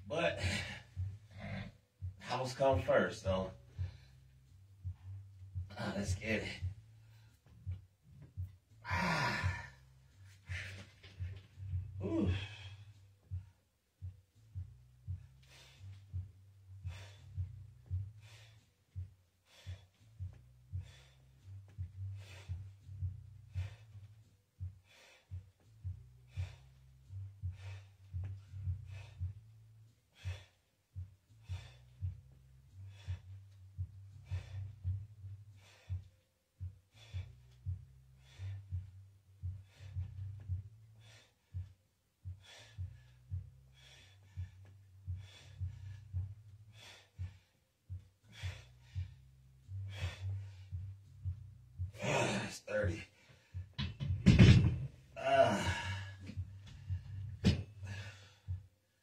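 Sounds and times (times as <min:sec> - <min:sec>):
man breathing hard in puffs: 0:00.3 - 0:02.9, 0:03.5 - 0:54.2, 0:54.8 - 0:59.0.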